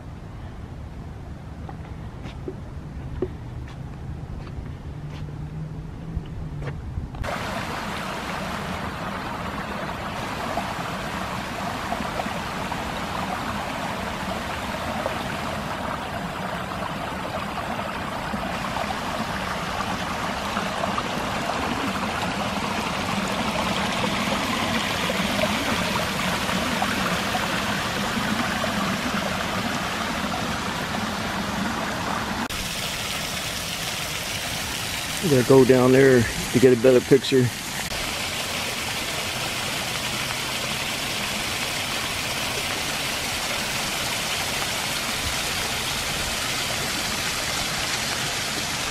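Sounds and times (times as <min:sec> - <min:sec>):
creek water splashing over rocks: 0:07.2 - 0:48.9.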